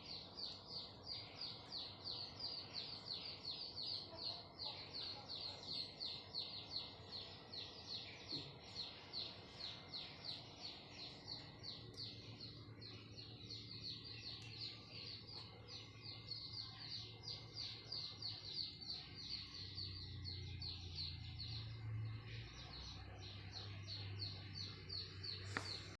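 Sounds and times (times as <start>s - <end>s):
small bird chirping: 0.0s - 26.0s.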